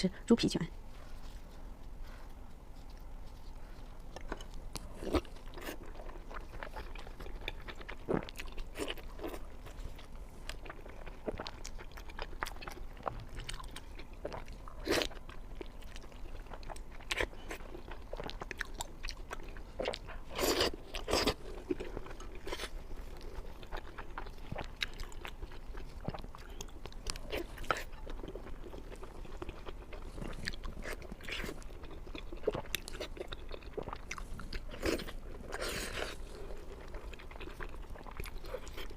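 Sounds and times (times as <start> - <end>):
crunching and wet chewing: 0.9 - 38.9.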